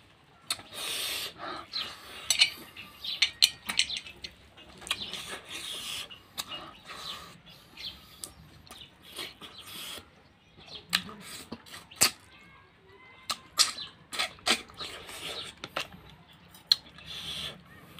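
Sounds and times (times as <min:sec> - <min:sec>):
chewing and lip smacking: 0:00.4 - 0:10.1, 0:10.8 - 0:12.3, 0:13.3 - 0:17.9.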